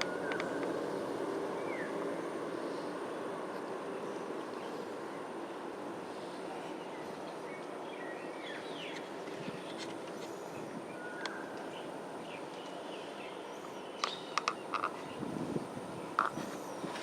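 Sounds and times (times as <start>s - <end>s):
birds chirping: 0.0s - 15.4s
steady background hum: 0.0s - 17.0s.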